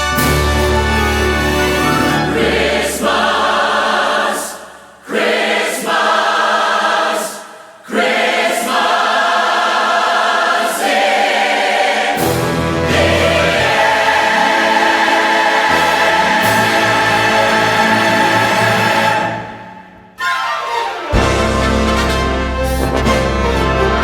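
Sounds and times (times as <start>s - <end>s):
large choir singing: 0.2s - 21.9s.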